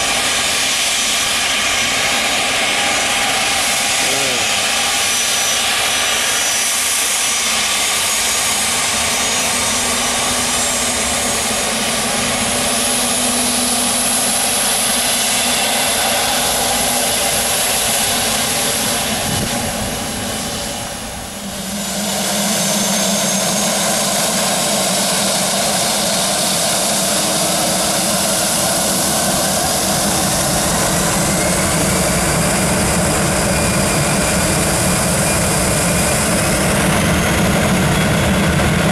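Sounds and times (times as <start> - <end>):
jet engines running with high whine: 0.0 - 38.9.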